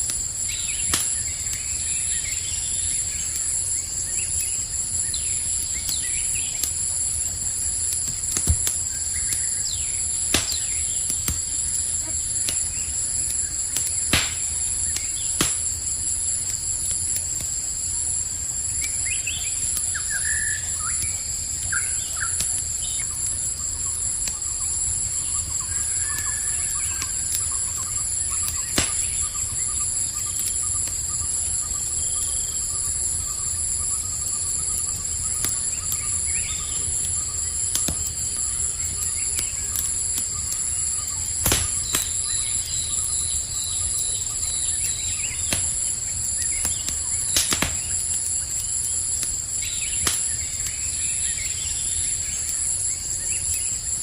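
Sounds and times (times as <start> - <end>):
campfire crackling: 0.0 - 54.0
crickets chirping: 0.0 - 54.0.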